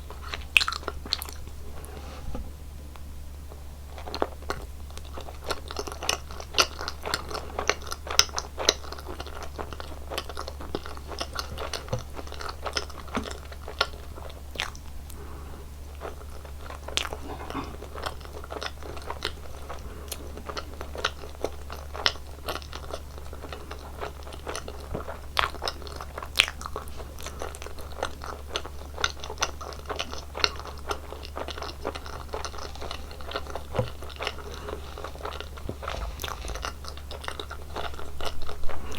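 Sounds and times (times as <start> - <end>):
chewing gummy candy: 0.0 - 1.6, 3.0 - 38.9.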